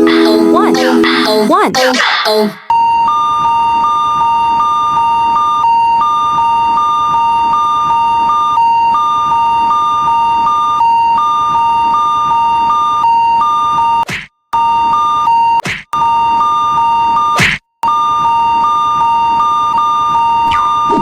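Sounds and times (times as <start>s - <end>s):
railroad crossing alarm: 2.7s - 14.0s, 14.6s - 21.0s.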